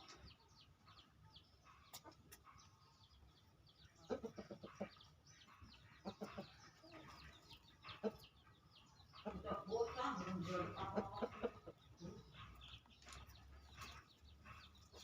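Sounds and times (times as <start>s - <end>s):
chickens clucking softly: 0.0s - 15.0s.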